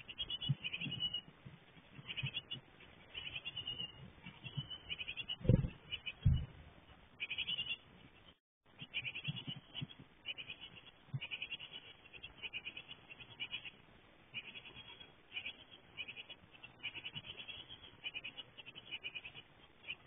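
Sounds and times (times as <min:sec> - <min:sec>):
nestlings chirping begging calls: 0:02.0 - 0:06.5, 0:07.2 - 0:07.8, 0:08.8 - 0:20.0.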